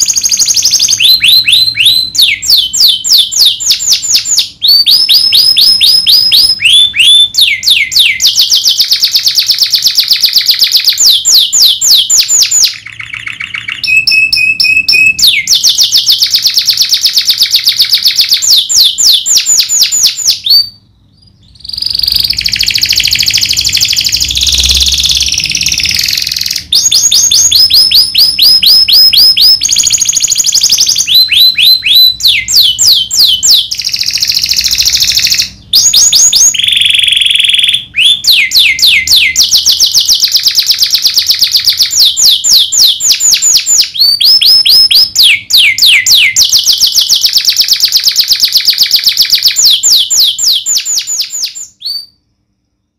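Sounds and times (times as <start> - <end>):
canary singing trills: 0.0 - 52.3.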